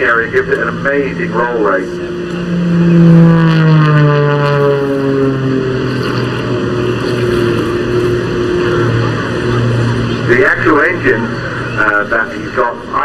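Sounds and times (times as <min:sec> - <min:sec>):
propeller plane flying past: 0:00.0 - 0:13.0.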